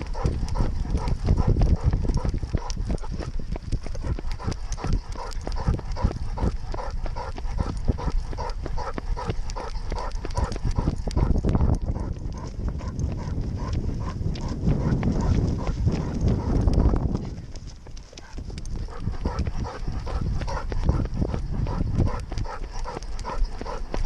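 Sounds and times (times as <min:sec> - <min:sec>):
dog paws striking ground: 0:00.0 - 0:24.0.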